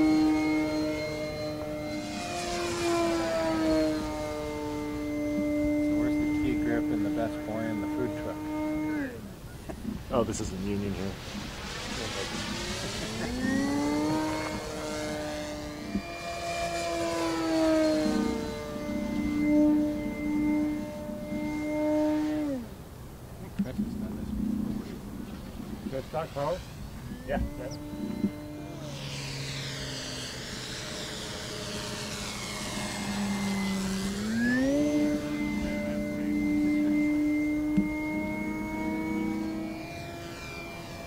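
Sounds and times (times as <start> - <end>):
model plane electric motor whine: 0.0 - 41.0
wind hiss: 0.0 - 41.0.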